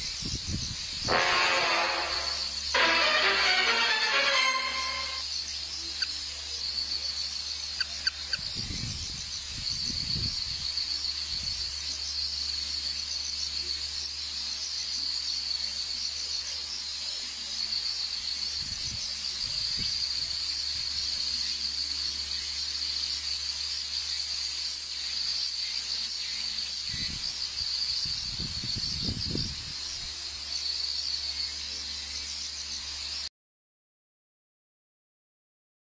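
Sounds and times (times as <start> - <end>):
insects chirring: 0.0 - 33.3.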